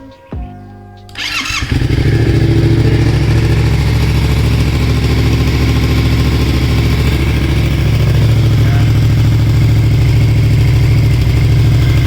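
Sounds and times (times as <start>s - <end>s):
motorcycle engine starting and idling: 1.1s - 12.0s.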